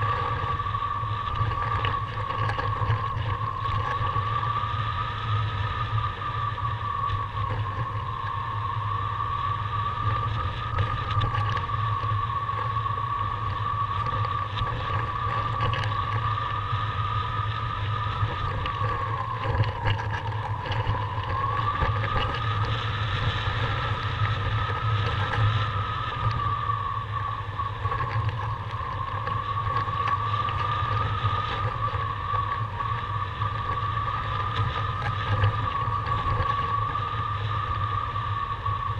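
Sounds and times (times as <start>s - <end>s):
wind roar on microphone: 0.0s - 38.9s.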